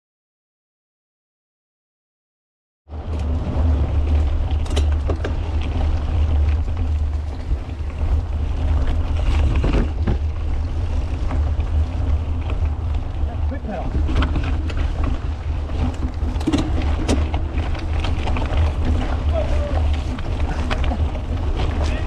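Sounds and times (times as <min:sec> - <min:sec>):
bike clicks and rattles: 0:02.9 - 0:22.0
bike tyres on dirt trail: 0:02.9 - 0:22.0
wind rumbling on microphone: 0:02.9 - 0:22.0.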